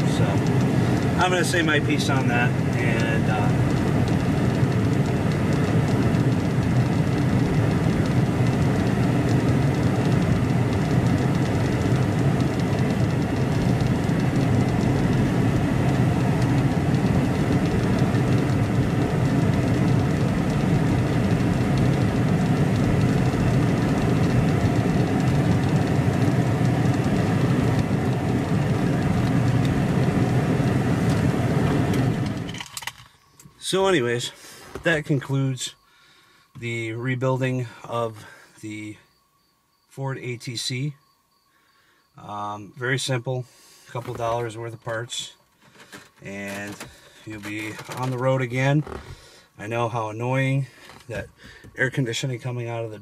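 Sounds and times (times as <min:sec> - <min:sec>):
car cabin road rumble: 0:00.0 - 0:35.8, 0:42.6 - 0:53.0.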